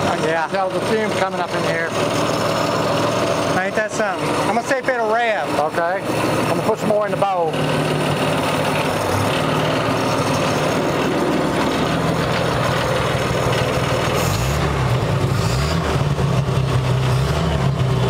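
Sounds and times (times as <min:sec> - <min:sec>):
car engine running and revving: 0:00.0 - 0:18.0.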